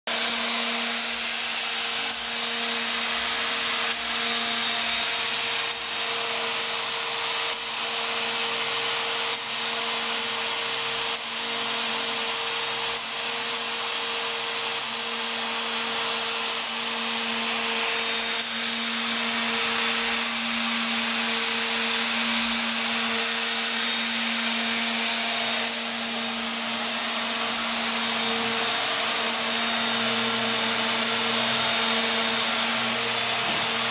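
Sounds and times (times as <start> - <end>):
router spindle whining: 0.1 - 33.9.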